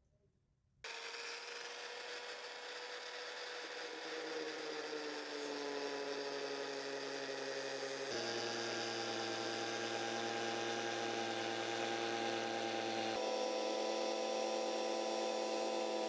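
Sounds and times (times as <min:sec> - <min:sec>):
angle grinder cutting plywood: 0:00.8 - 0:16.0.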